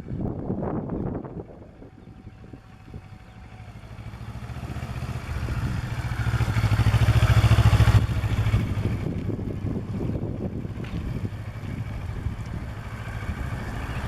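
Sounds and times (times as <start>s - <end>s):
motorcycle engine passing: 0.0s - 14.0s.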